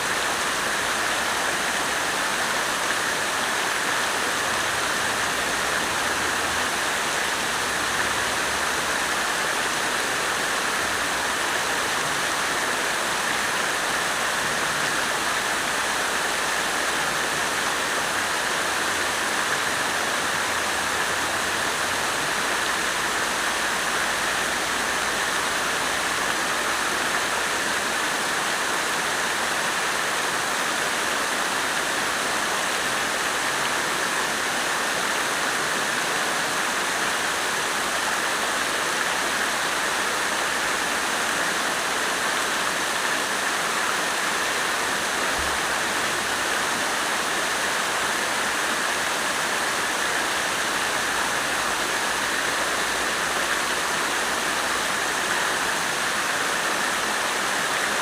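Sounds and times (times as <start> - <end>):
water fountain splashing: 0.0 - 58.0.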